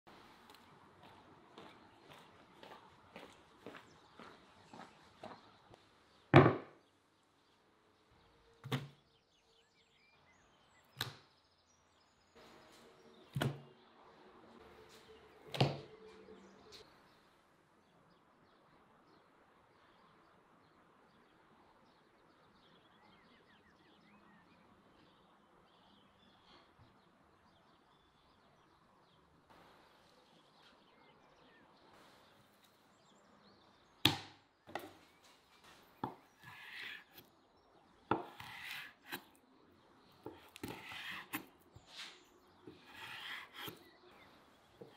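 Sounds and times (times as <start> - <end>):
faint background noise: 0.1 - 44.9.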